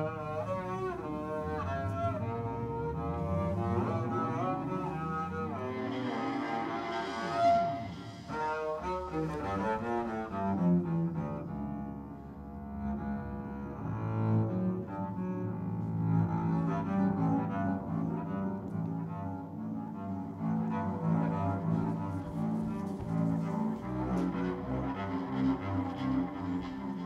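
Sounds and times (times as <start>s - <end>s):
bowed double bass: 0.0s - 27.0s.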